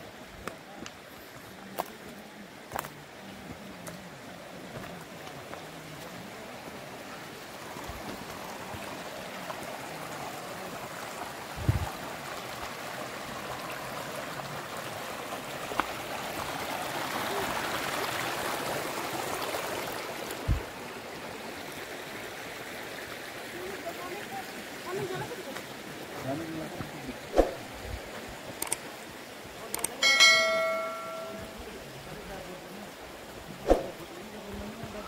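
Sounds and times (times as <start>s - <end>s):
stream running over stones: 0.0s - 35.0s.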